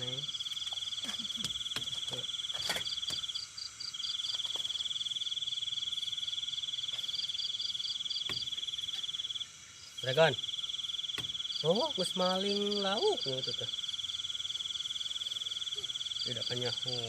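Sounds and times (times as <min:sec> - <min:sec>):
cricket trilling: 0:00.0 - 0:17.0
insect chirping in pulses: 0:00.0 - 0:17.0.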